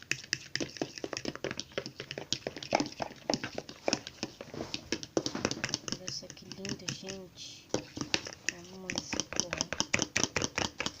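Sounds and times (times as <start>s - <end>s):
slime squelching: 0.0s - 11.0s.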